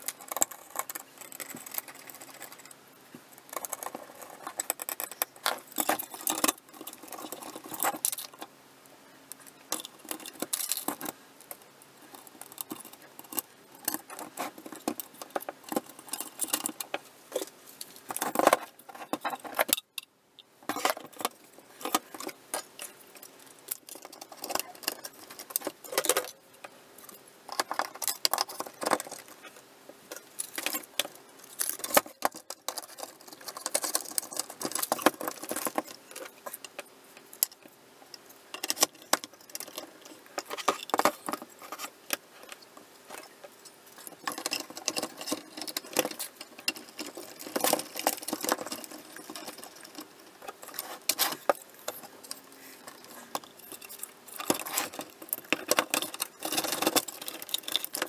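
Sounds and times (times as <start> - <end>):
plastic parts clicking and rattling: 0.0 - 8.5, 9.3 - 58.0.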